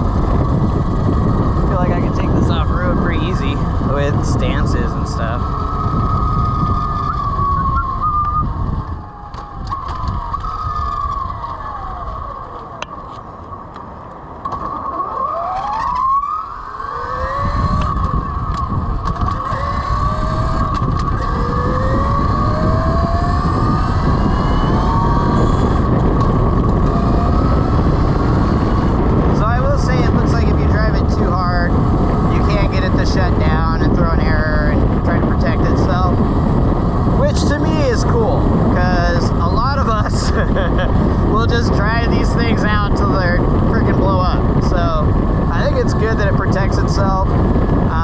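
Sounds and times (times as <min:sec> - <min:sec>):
electric motorcycle motor whine: 0:00.0 - 0:48.0
wind rumble: 0:00.0 - 0:48.0.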